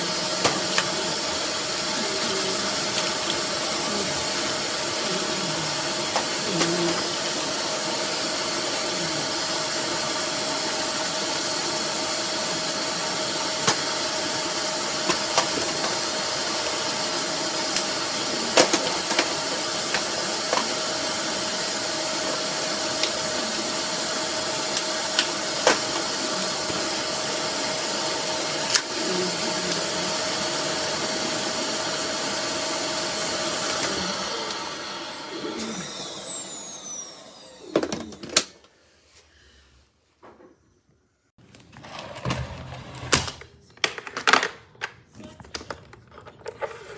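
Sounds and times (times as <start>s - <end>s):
vacuum cleaner running: 0.0s - 39.6s.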